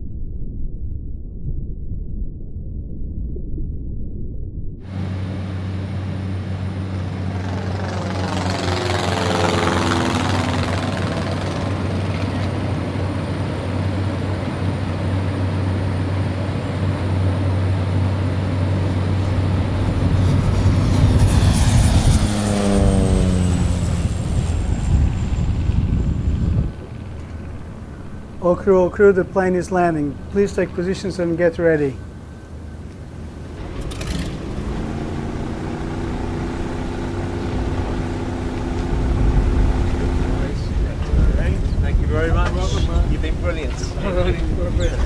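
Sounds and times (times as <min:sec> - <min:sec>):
deep rumble: 0:00.0 - 0:45.0
propeller plane engine droning: 0:04.8 - 0:45.0.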